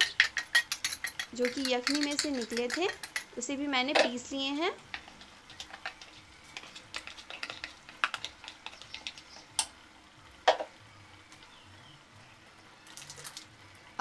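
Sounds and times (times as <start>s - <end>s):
hot oil crackling and popping: 0.0s - 14.0s.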